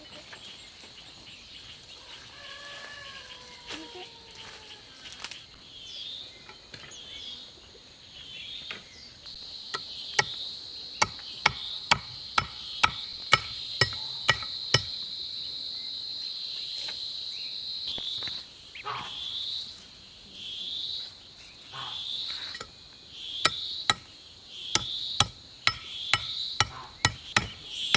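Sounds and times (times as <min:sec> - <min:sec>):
high insect drone: 0:00.0 - 0:27.9.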